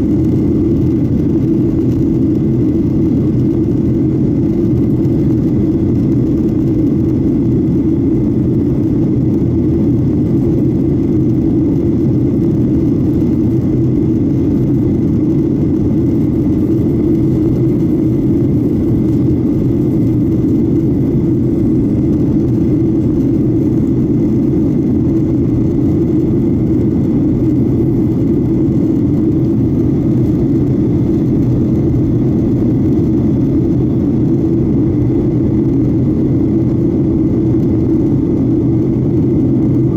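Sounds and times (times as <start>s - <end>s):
high whine: 0.0s - 39.9s
jet engines roaring: 0.0s - 39.9s.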